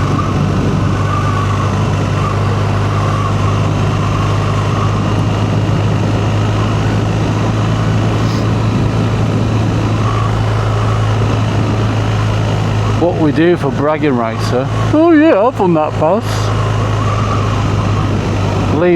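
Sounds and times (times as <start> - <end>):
motorcycle engine running: 0.0 - 18.9
road noise rushing: 0.0 - 18.9.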